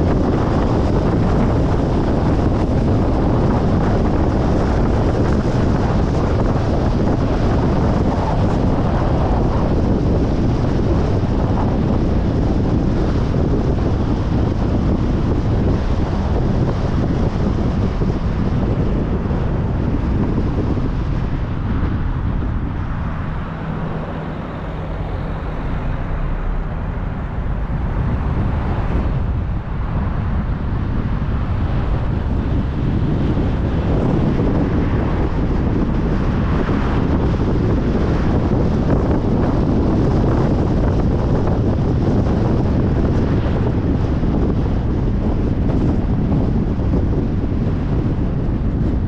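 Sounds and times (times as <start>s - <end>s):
car road and wind noise: 0.0s - 49.0s.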